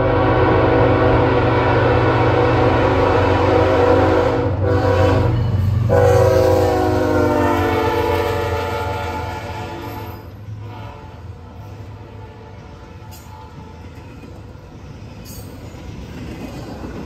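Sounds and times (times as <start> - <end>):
train air horn: 0.0 - 13.9
train wheels rolling on rails: 0.0 - 17.0.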